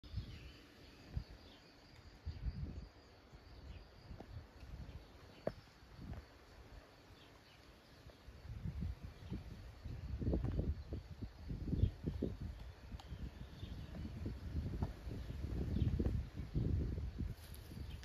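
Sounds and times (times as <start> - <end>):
faint bird chirps: 0.0 - 16.7.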